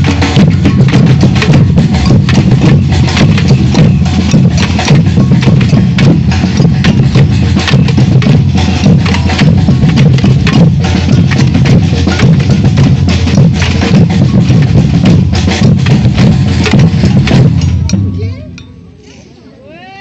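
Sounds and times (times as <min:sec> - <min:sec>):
deep bass drums: 0:00.0 - 0:18.6
sharp high percussion strikes: 0:00.0 - 0:19.1.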